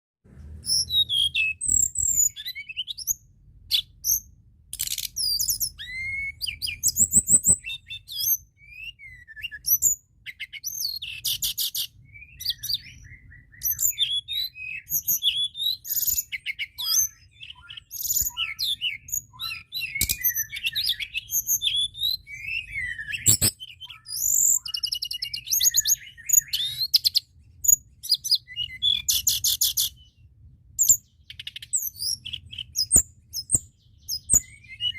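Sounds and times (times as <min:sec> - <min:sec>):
bird singing chirps and trills: 0:00.4 - 0:34.9.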